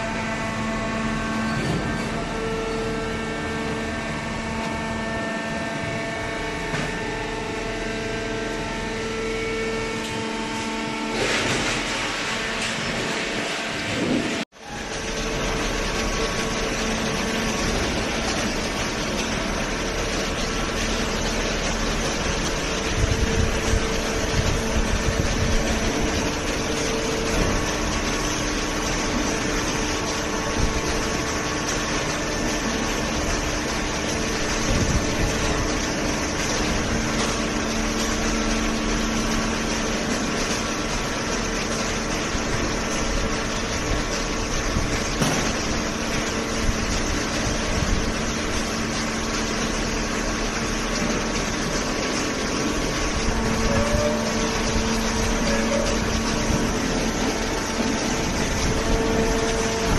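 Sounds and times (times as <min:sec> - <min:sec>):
baler machine running: 0:00.0 - 0:59.9.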